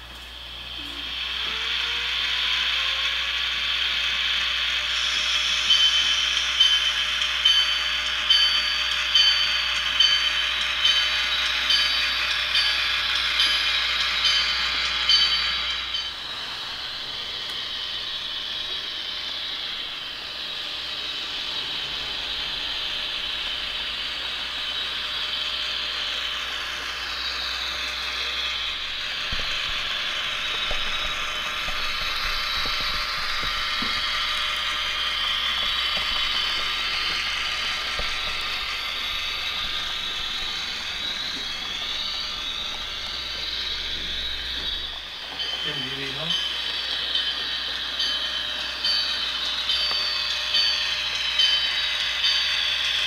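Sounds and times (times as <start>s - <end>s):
model locomotive whirring and whine: 0.0s - 53.0s.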